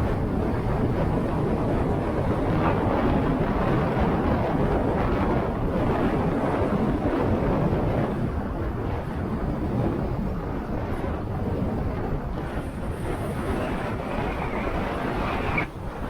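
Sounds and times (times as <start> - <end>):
motorcycle engine and road noise: 0.0 - 16.0
wind rushing over microphone: 0.0 - 16.0.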